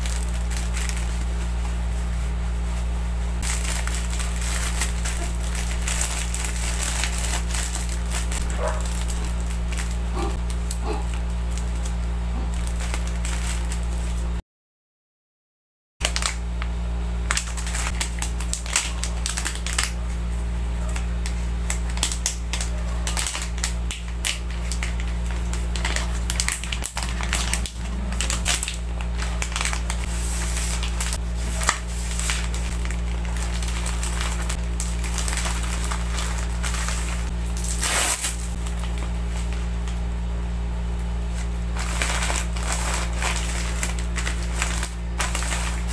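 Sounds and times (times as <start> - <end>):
plastic packaging crinkling: 0.0 - 14.4, 16.0 - 45.9
steady low hum: 0.0 - 14.4, 16.0 - 45.9.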